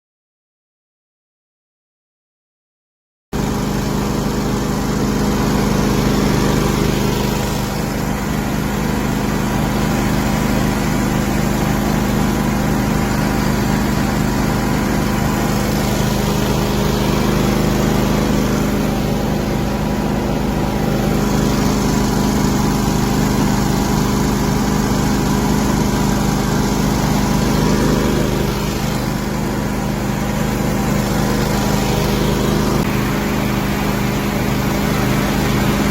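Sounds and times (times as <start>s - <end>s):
small engine running steadily: 3.4s - 35.9s.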